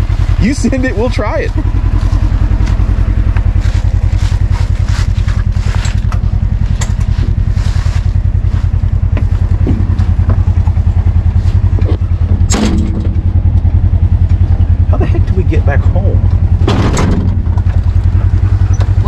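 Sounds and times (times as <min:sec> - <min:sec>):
low pulsing engine: 0:00.0 - 0:19.0
body knocks and rattles: 0:01.5 - 0:14.6, 0:16.3 - 0:19.0.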